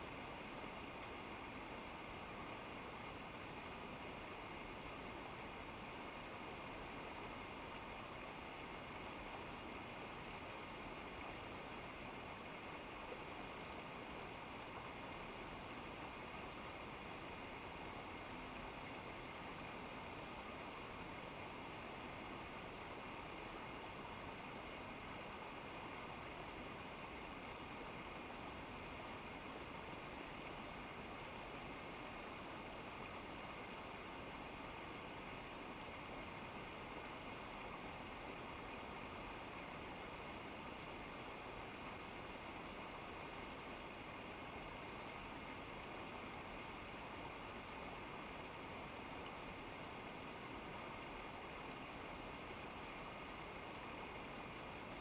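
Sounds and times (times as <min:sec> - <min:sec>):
rushing river water: 0:00.0 - 0:55.0.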